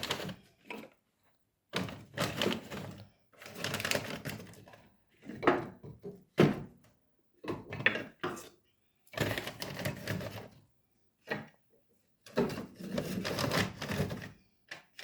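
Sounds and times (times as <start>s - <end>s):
objects clattering and rustling: 0.0s - 11.6s, 12.2s - 15.0s.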